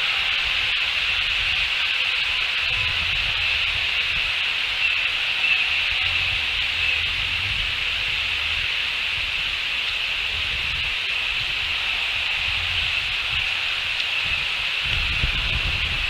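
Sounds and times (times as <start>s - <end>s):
high-pitched hiss: 0.0s - 16.0s
wind rumble on microphone: 0.0s - 16.0s.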